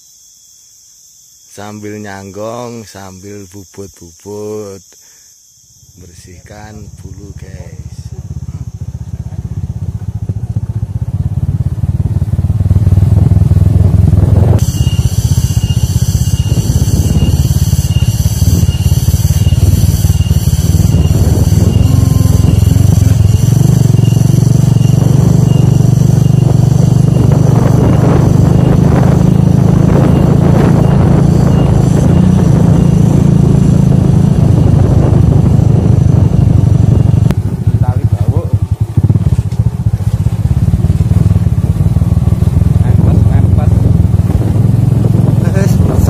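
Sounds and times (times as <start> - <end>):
motorcycle engine running: 6.1 - 46.0.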